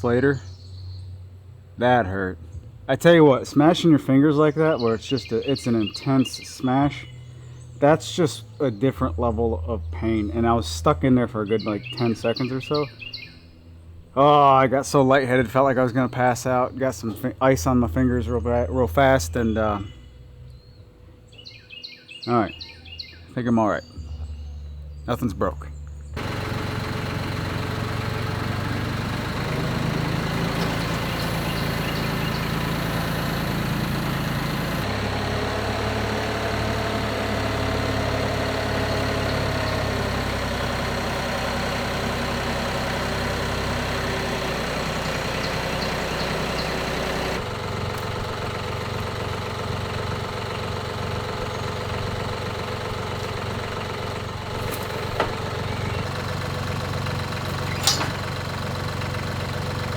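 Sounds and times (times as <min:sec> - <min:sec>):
engine running: 0:00.0 - 0:21.2, 0:24.0 - 0:59.9.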